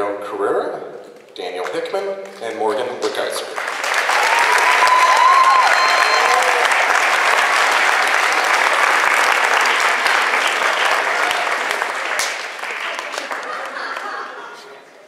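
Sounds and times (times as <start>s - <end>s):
audience applauding: 2.2s - 14.7s.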